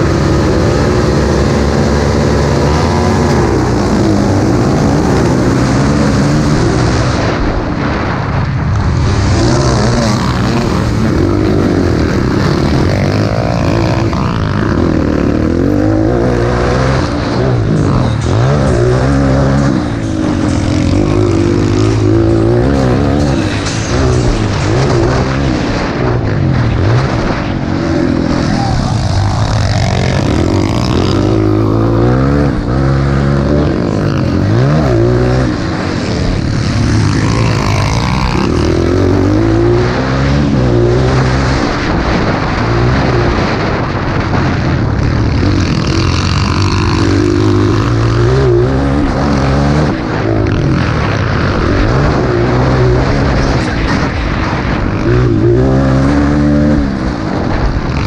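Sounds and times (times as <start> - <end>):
motocross bike engines revving: 0.0 - 58.0.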